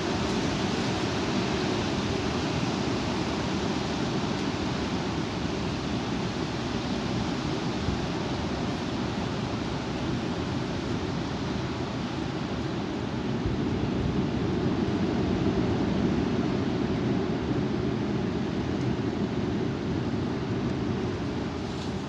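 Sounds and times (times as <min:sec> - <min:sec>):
strong wind blowing: 0:00.0 - 0:22.0.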